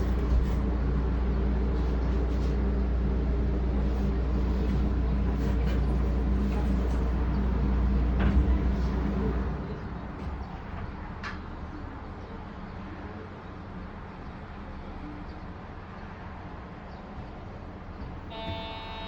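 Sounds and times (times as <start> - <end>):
stopped train hum and rumble: 0.0 - 19.0.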